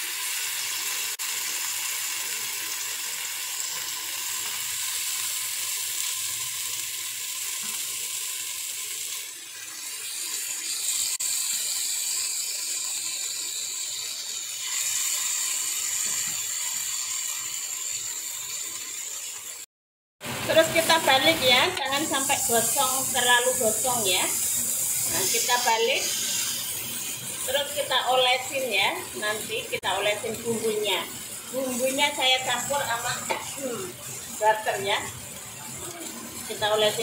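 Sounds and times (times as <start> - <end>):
chicken sizzling on grill pan: 0.0 - 19.7, 20.3 - 37.0.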